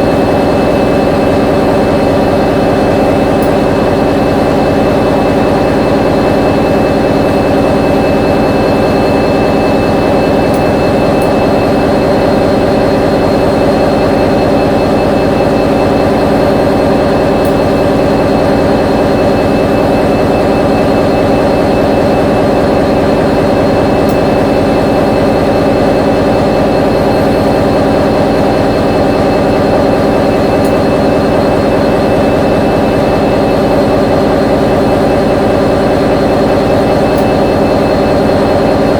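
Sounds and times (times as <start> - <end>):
locomotive diesel engine droning: 0.0 - 38.9.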